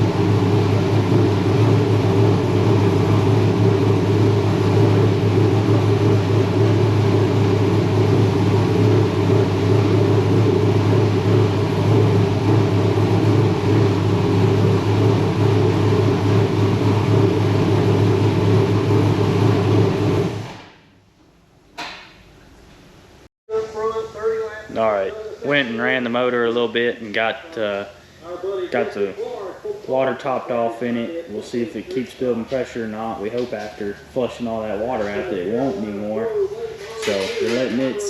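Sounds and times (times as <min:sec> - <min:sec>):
race car engine idling: 0:00.0 - 0:20.6, 0:23.5 - 0:38.0.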